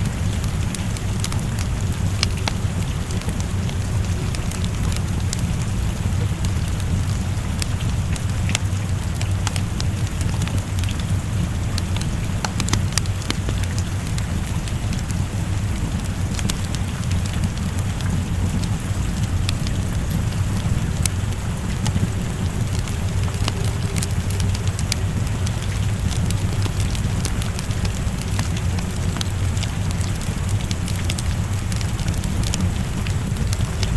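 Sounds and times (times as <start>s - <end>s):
low rumble: 0.0s - 33.9s
steady rain: 0.0s - 33.9s
wood fire crackling: 0.0s - 33.9s.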